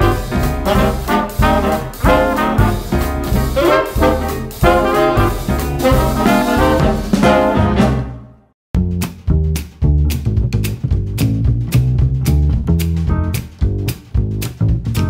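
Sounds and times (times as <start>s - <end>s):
upbeat jazzy music with brass: 0.0s - 15.0s.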